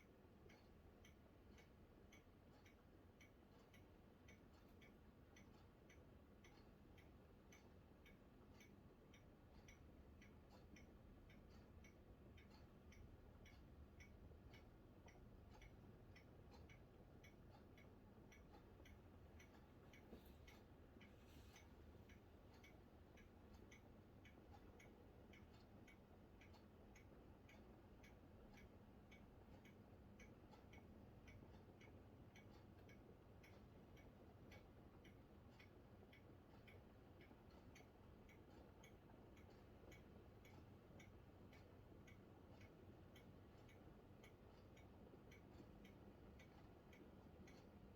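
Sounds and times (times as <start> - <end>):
faint regular ticking: 0.0 - 47.9.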